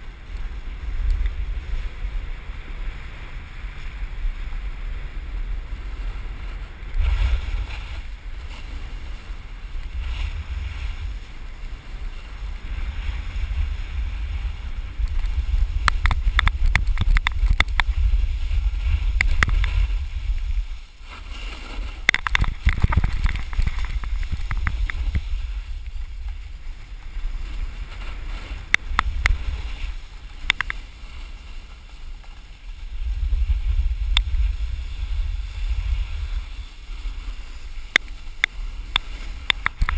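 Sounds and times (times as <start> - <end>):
snowboard edges scraping snow: 0.0 - 39.9
wind buffeting microphone: 0.0 - 39.9.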